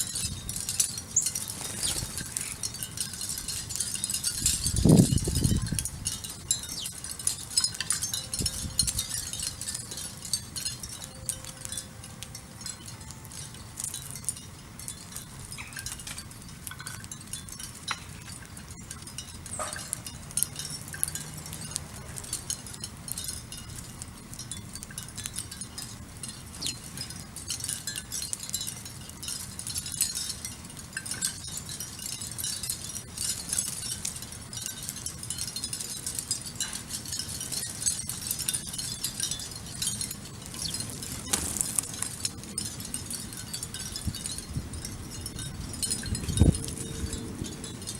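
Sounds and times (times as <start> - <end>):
small birds chirping: 0.0 - 47.9
soft chime-like tones: 0.0 - 47.9.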